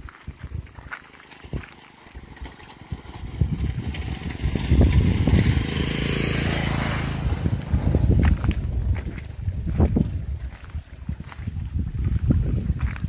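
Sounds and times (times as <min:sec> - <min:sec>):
vehicle engine and tyre noise: 0:00.0 - 0:13.0
wind buffeting microphone: 0:00.0 - 0:13.0.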